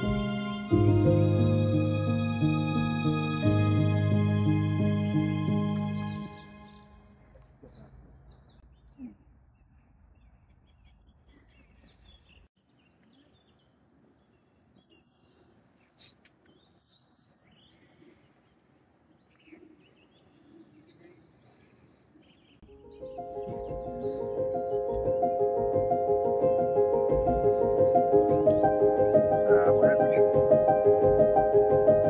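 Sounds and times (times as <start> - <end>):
birds chirping: 5.2 - 32.0.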